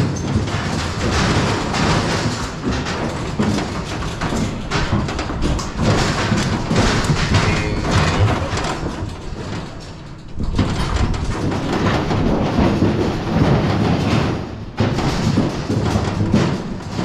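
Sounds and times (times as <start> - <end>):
steel chute rattling and clanking: 0.0 - 17.0.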